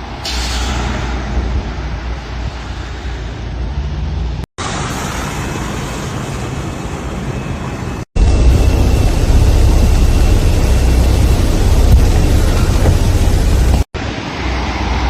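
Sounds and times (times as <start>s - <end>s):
city traffic rumble and hiss: 0.0s - 15.0s.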